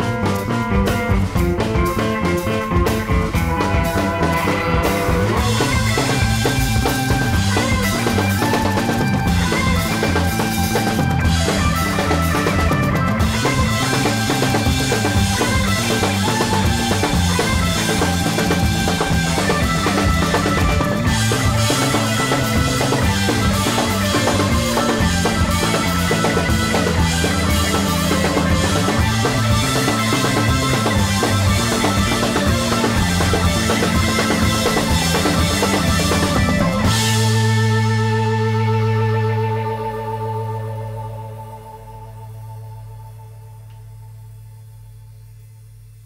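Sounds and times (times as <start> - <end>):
music with drums and bass: 0.0 - 43.4.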